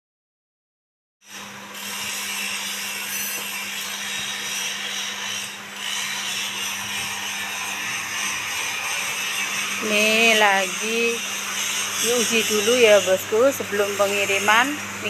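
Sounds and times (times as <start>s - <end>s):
angle grinder on metal: 1.2s - 15.0s.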